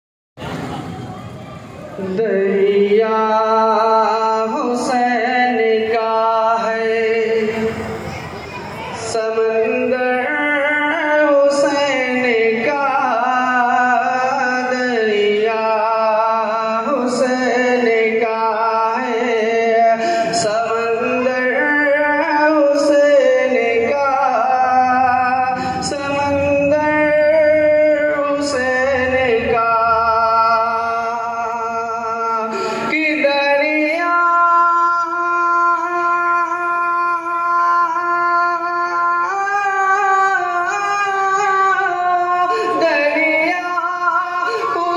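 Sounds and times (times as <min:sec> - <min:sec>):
man singing through loudspeakers: 0:01.8 - 0:44.9.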